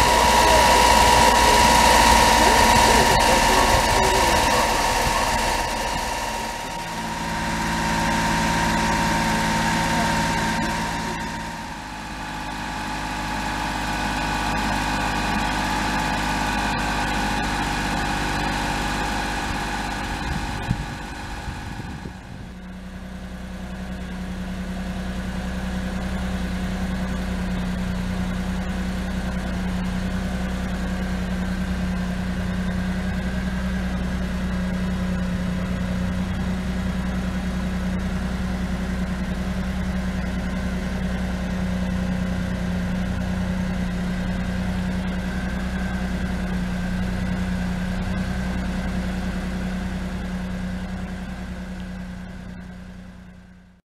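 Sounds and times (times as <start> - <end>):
truck engine running: 0.0 - 53.8.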